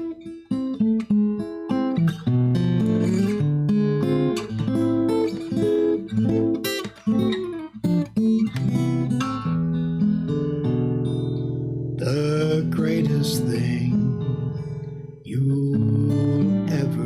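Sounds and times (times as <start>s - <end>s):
guitar playing melody: 0.0s - 17.0s.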